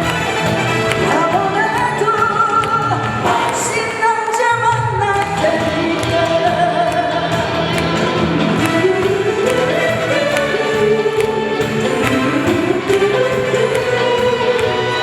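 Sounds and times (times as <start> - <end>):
amplified backing music: 0.0 - 15.0
person singing: 0.0 - 15.0.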